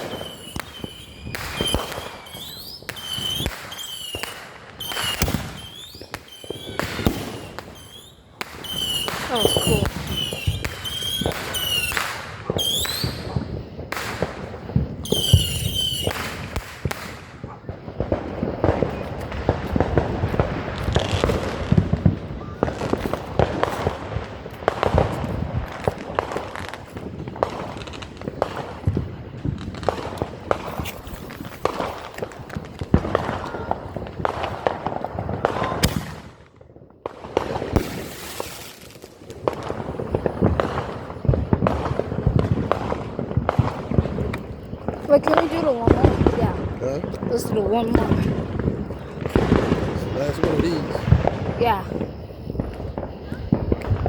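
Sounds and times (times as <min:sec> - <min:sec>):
firework whistles: 0:00.0 - 0:36.5, 0:37.1 - 0:54.0
fireworks popping and crackling: 0:00.0 - 0:54.0.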